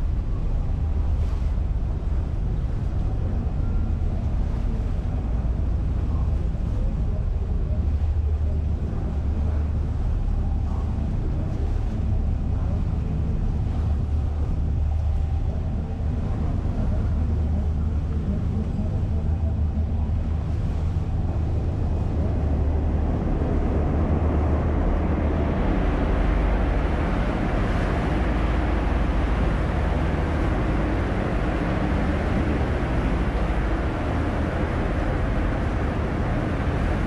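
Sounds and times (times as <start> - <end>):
ferry engine droning: 0.0 - 37.0
rushing water: 0.0 - 37.0
wind: 0.0 - 37.0.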